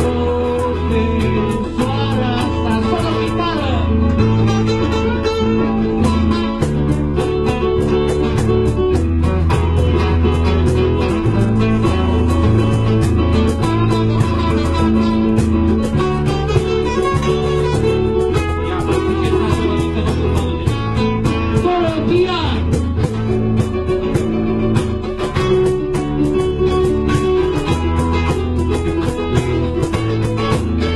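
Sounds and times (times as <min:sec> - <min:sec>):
acoustic guitar music: 0:00.0 - 0:30.9.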